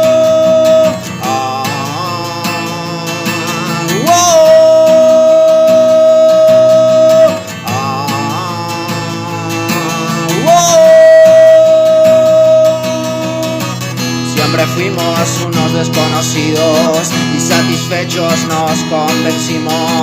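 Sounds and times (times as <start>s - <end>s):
guitar-backed instrumental song: 0.0s - 20.0s.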